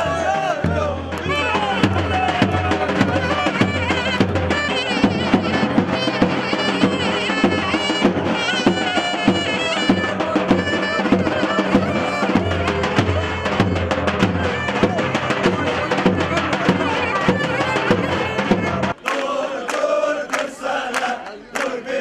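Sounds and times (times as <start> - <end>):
davul drum beat: 0.0 - 19.0
zurna melody: 0.0 - 19.0.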